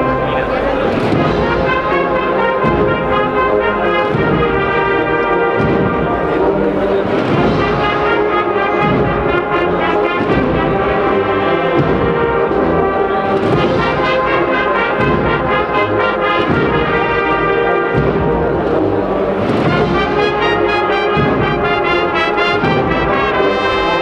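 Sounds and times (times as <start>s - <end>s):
brass band playing a march: 0.0s - 24.0s
drums: 0.0s - 24.0s.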